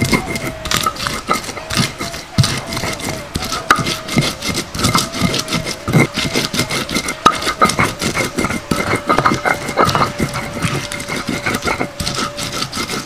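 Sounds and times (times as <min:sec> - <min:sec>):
stone knocking on stone: 0:00.0 - 0:13.0
stone pestle scraping: 0:00.0 - 0:13.0.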